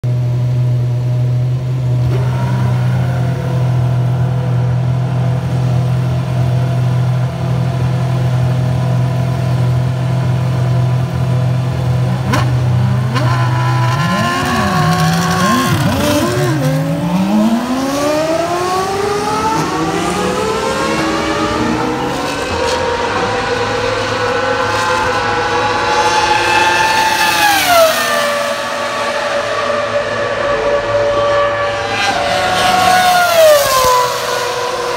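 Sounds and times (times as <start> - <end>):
racing engine revving: 1.9 - 34.9.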